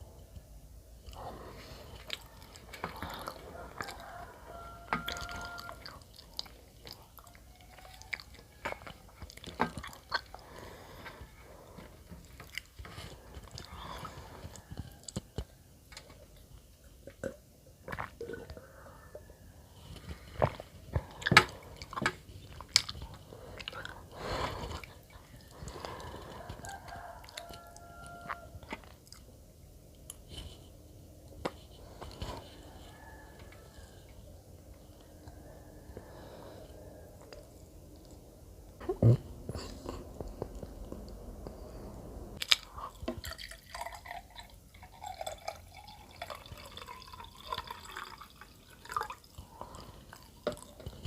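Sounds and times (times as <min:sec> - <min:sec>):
person chewing bread: 0:01.0 - 0:16.4, 0:19.8 - 0:41.7, 0:42.4 - 0:51.0.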